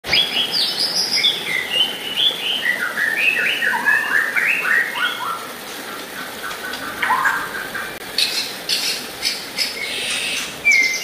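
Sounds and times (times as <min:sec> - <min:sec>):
rushing water: 0:00.0 - 0:11.0
bird singing whistled notes: 0:00.1 - 0:05.4, 0:07.0 - 0:11.0.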